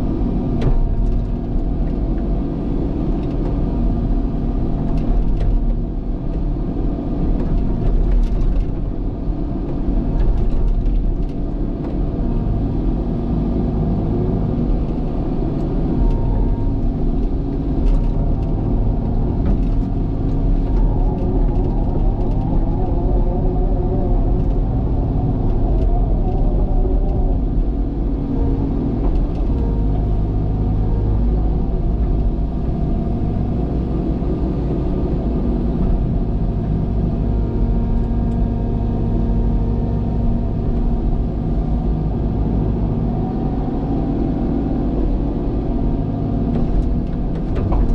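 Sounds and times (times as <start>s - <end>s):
diesel engine deep rumble: 0.0s - 47.9s.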